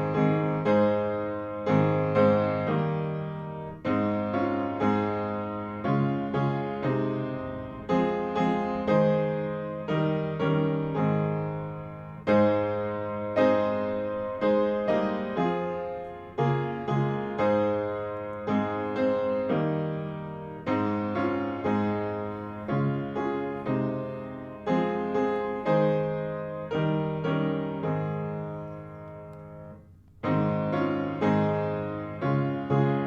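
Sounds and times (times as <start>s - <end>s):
piano playing hymn chords: 0.0s - 33.0s.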